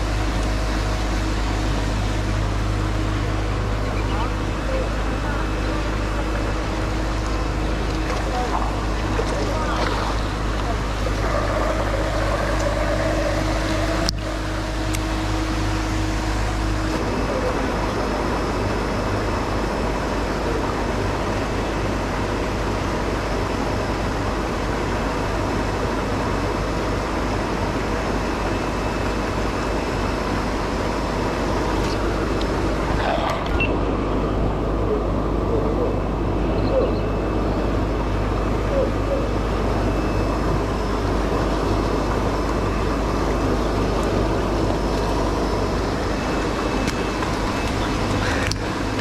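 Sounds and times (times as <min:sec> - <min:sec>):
motor humming: 0:00.0 - 0:20.9, 0:28.9 - 0:49.0
paddlewheel churning pond water: 0:00.0 - 0:36.4, 0:37.3 - 0:49.0.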